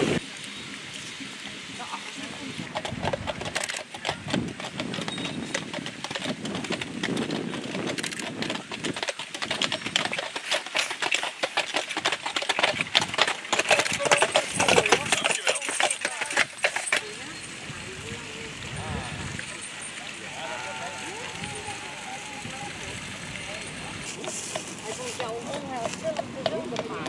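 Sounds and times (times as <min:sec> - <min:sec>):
horse hooves clopping on pavement: 0:00.9 - 0:27.0.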